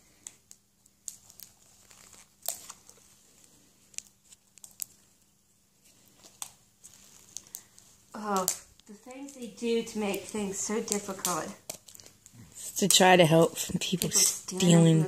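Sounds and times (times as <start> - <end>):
plastic packaging crinkling: 0.2 - 15.0.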